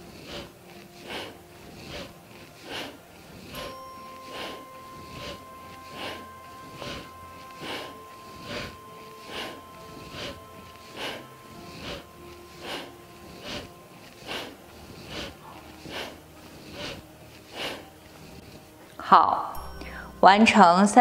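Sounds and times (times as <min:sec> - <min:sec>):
strong breaths through the nose: 0:00.0 - 0:19.0, 0:19.6 - 0:20.2
soft background music: 0:00.0 - 0:21.0.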